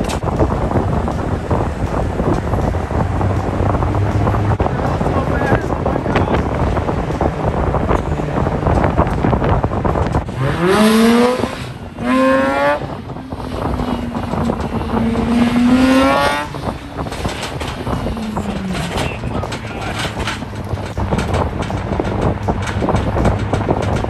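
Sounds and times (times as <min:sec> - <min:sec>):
car engine revving: 0:00.0 - 0:24.0
steady noisy rush: 0:00.0 - 0:24.0.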